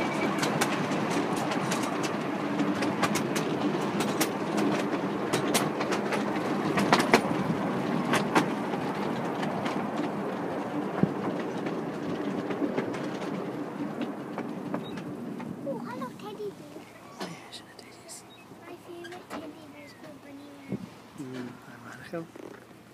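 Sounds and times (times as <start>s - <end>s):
wheels clicking over rail joints: 0.0s - 17.3s, 18.3s - 22.9s
miniature train rumbling: 0.0s - 22.9s.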